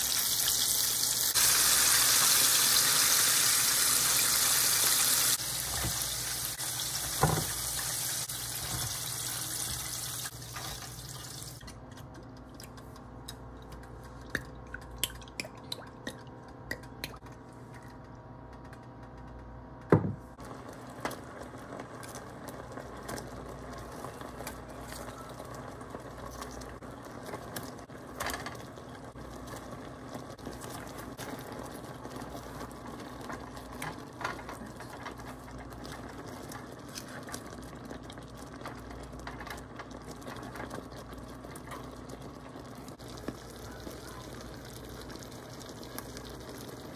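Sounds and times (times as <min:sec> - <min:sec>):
frying hiss: 0:00.0 - 0:11.6, 0:20.4 - 0:46.9.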